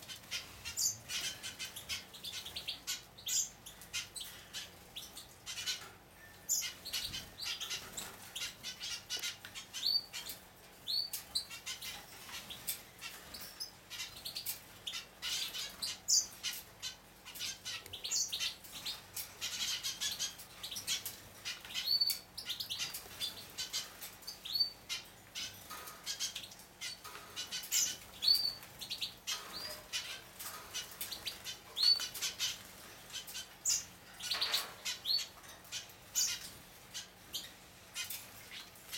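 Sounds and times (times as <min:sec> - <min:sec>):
high bird chirps: 0:00.1 - 0:38.6.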